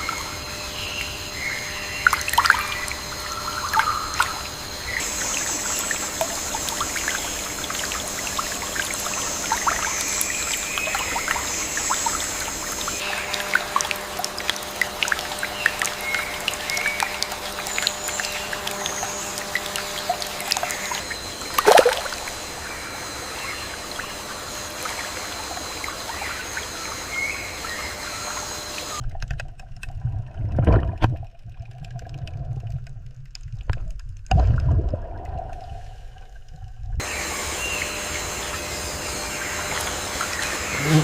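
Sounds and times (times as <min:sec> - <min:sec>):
faint high hum: 0:00.0 - 0:29.0, 0:35.8 - 0:41.0
water trickling: 0:00.0 - 0:41.0.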